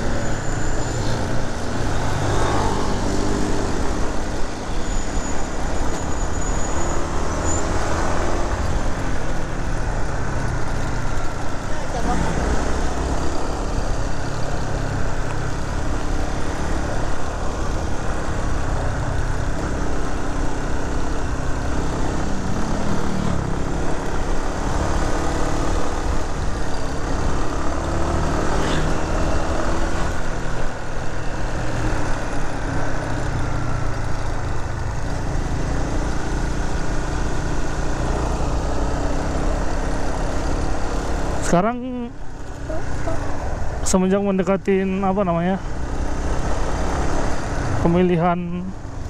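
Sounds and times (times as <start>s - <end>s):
wind and road noise: 0.0s - 49.0s.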